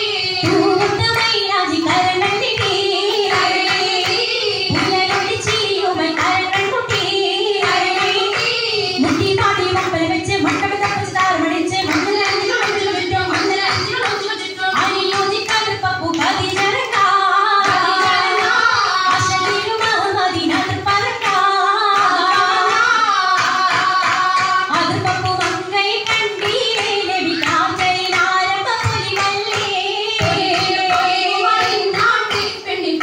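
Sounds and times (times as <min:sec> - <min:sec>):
rhythmic hand clapping: 0:00.0 - 0:33.0.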